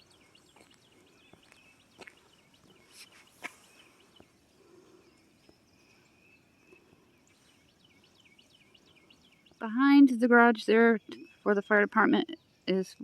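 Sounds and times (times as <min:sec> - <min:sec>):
faint songbird chirps: 0:00.0 - 0:13.0.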